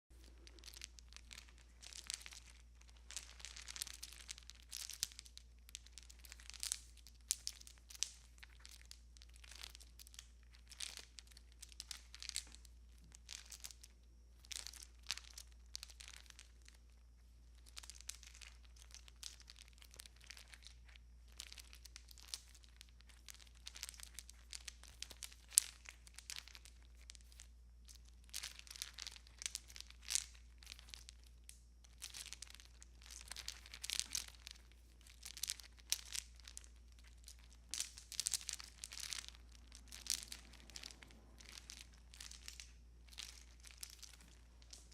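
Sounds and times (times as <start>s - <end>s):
string lights rustling and crinkling: 0.1s - 44.9s.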